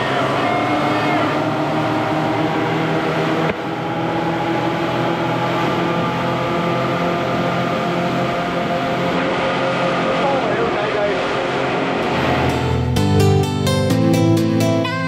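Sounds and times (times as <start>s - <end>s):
water rushing past hull: 0.0s - 12.9s
outboard motors running: 0.0s - 14.8s.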